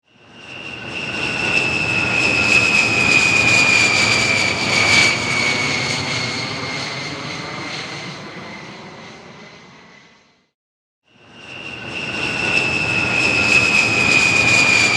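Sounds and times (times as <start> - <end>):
jet engine whine: 0.0 - 14.9.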